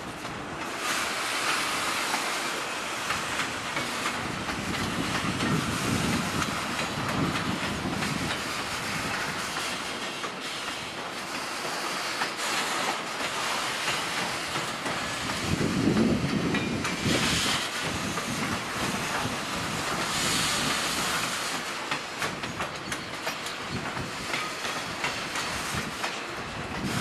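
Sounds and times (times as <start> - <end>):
freight train rolling past: 0.0 - 27.0
train wheels clacking: 0.0 - 27.0.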